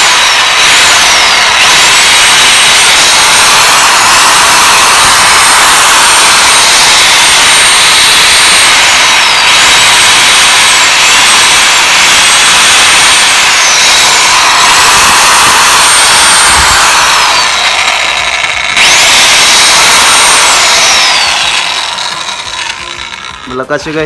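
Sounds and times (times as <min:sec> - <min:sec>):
circular saw motor whining: 0:00.0 - 0:24.0.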